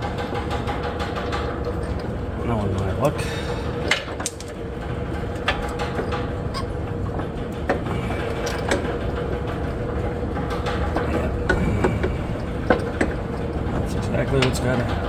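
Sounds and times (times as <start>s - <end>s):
background hum with constant tone: 0.0s - 15.0s.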